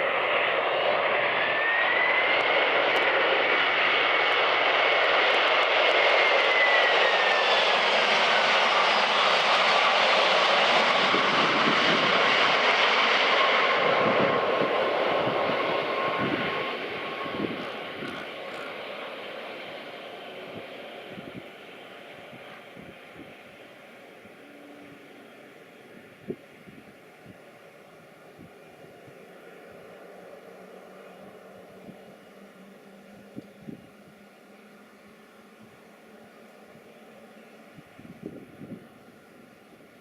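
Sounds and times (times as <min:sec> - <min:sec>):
jet airliner roar: 0:00.0 - 0:40.0.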